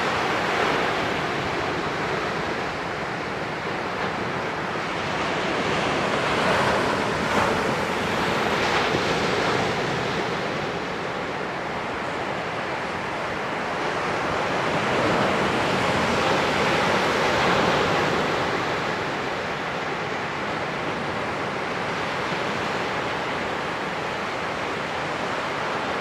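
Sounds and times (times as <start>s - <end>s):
small waves breaking on beach: 0.0s - 26.0s.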